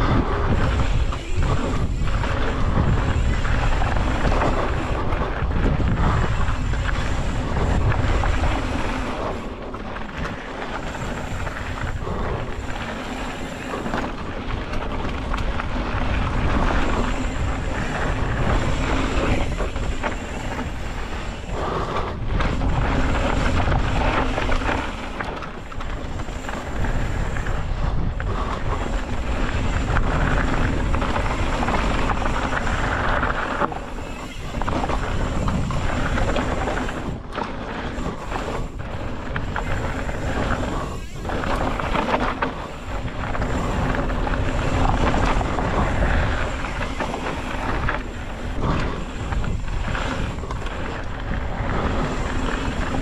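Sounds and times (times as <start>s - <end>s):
bike knocks and rattles: 0.0s - 53.0s
bike tyres rolling on dirt: 0.0s - 53.0s
wind buffeting microphone: 0.0s - 53.0s.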